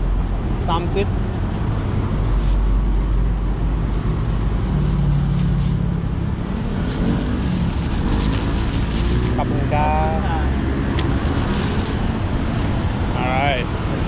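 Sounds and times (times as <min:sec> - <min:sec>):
passing vehicle engine hum: 0:00.0 - 0:14.0
street traffic rumble: 0:00.0 - 0:14.0.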